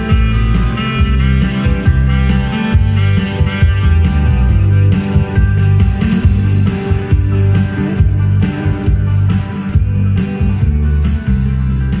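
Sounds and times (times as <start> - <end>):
keyboard band arrangement with beat: 0.0 - 12.0
keys played on keyboard: 0.0 - 12.0.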